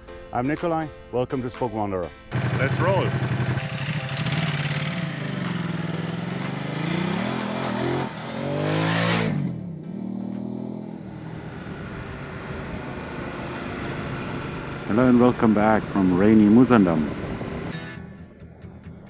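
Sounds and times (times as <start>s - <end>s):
motorcycle engine accelerating: 2.3s - 19.0s.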